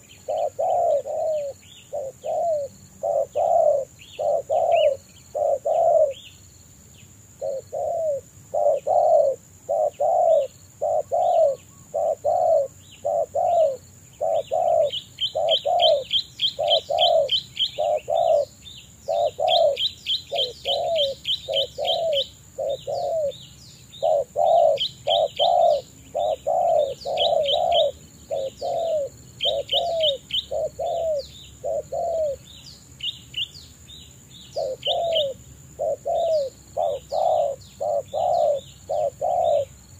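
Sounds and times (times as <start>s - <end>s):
dove cooing: 0.0s - 6.2s, 7.4s - 32.5s, 34.5s - 39.8s
small birds chirping: 0.0s - 39.9s.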